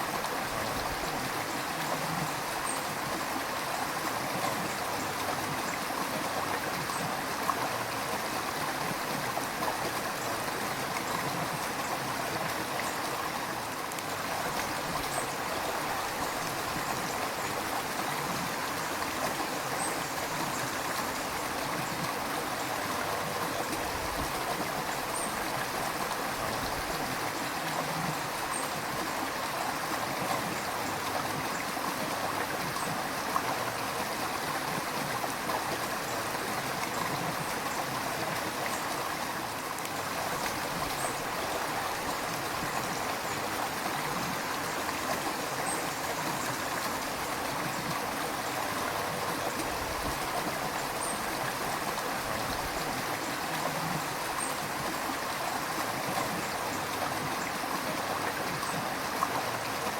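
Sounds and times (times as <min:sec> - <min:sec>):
river water rushing: 0:00.0 - 0:59.9
water gurgling: 0:00.0 - 0:59.9.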